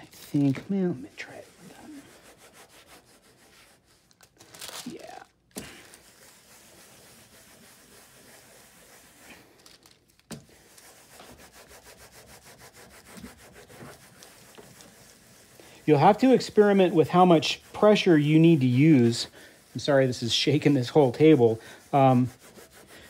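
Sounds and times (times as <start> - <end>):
scratchy rubbing on paper: 0.1 - 4.2, 4.9 - 9.6, 10.4 - 23.0.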